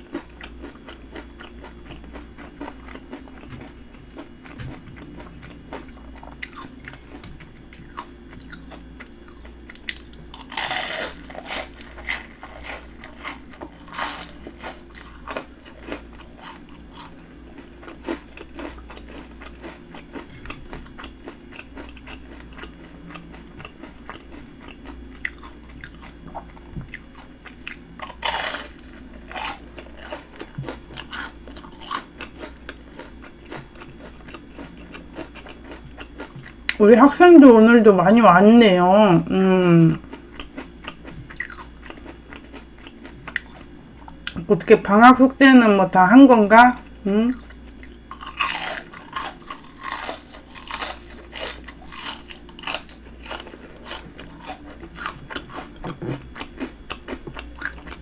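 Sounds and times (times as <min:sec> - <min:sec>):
crunchy bites of fried shrimp: 0:00.1 - 0:36.8, 0:40.3 - 0:44.4, 0:47.4 - 0:58.0.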